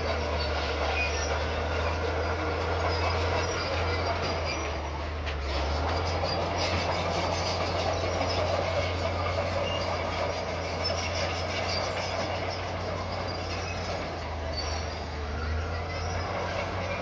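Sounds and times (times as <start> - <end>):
bulldozer diesel engine running: 0.0 - 17.0
steel tracks clanking and squealing: 0.0 - 17.0.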